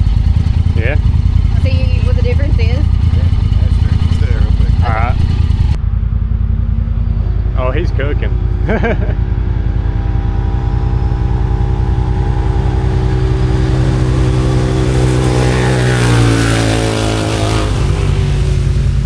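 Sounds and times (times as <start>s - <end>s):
engine idling: 0.0s - 19.0s
utility vehicle passing at full throttle: 0.0s - 19.0s.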